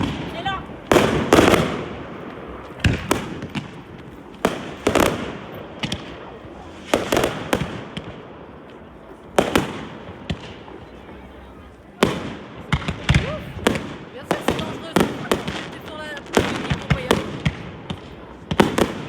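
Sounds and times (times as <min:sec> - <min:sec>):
fireworks exploding: 0:00.0 - 0:19.0.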